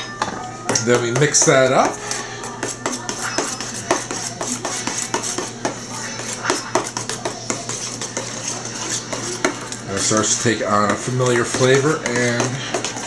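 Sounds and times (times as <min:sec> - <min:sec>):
spoon stirring thick sauce: 0:00.7 - 0:13.0.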